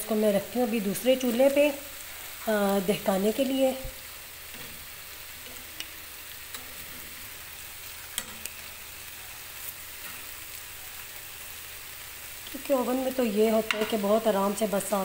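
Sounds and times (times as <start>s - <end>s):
chicken sizzling in a pan: 0.0s - 15.0s.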